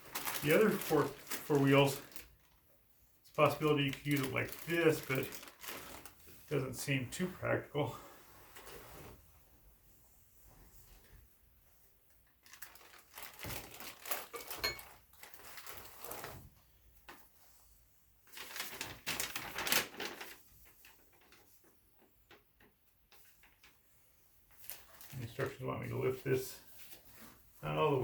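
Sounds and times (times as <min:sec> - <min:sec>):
material crinkling and rustling: 0:00.0 - 0:28.0.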